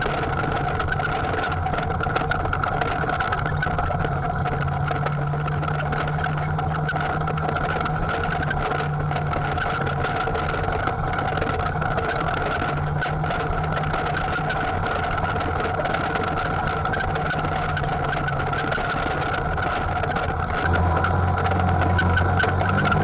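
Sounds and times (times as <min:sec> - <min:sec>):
clicks and rattles over rocks: 0:00.0 - 0:23.0
vehicle engine running: 0:00.0 - 0:23.0.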